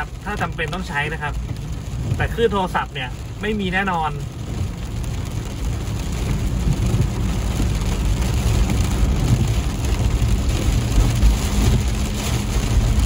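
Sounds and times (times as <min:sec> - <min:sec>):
engine and tyres on wet road: 0:00.0 - 0:13.0
rain hissing on car: 0:00.0 - 0:13.0.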